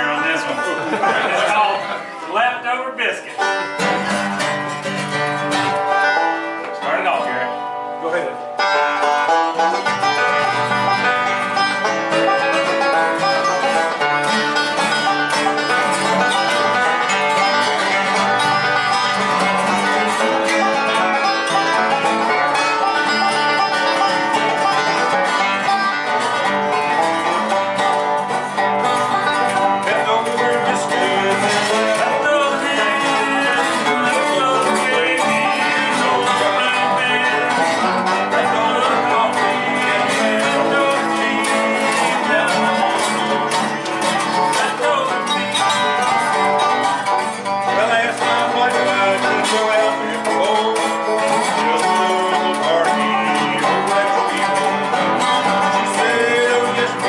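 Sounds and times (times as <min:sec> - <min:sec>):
acoustic guitar strumming: 0:00.0 - 0:57.0
banjo picking: 0:00.0 - 0:57.0
slide guitar: 0:00.0 - 0:57.0.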